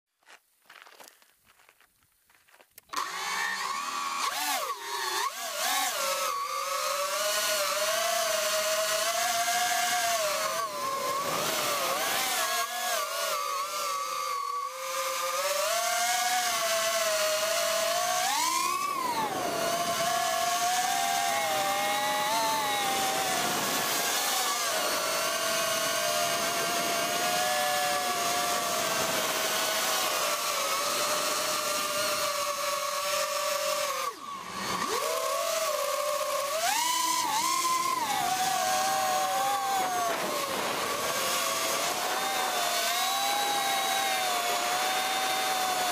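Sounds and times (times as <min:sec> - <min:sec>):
drone propellers whining: 0:02.9 - 0:45.9.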